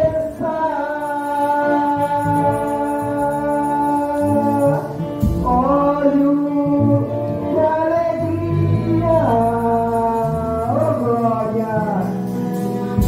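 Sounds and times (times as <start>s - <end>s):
man singing into a microphone: 0.0s - 13.0s
musical backing: 0.0s - 13.0s.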